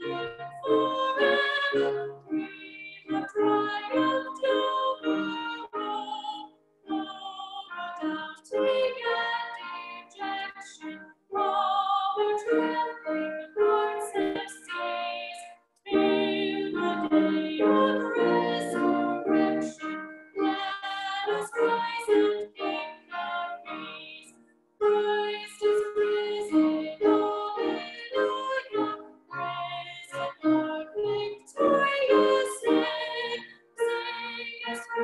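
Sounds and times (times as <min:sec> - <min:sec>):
woman singing: 0:00.0 - 0:19.8, 0:20.4 - 0:35.0.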